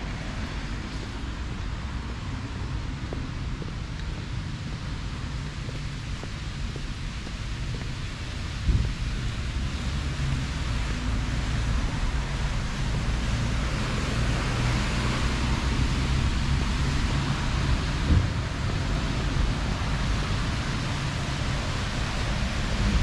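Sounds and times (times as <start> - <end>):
outdoor rushing noise: 0.0 - 23.0
wind on microphone: 1.6 - 23.0.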